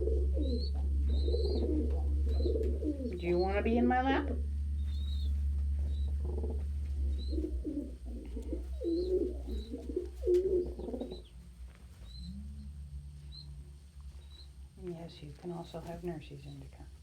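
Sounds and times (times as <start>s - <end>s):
pigeons cooing: 0.0s - 14.6s.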